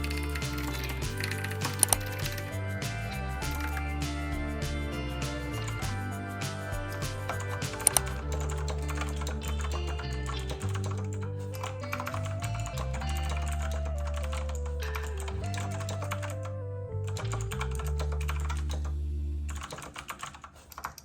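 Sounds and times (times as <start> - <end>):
rapid typing on keyboard: 0.0 - 4.6, 5.4 - 16.4, 17.1 - 18.9, 19.5 - 21.0
background music with bass: 0.0 - 20.2.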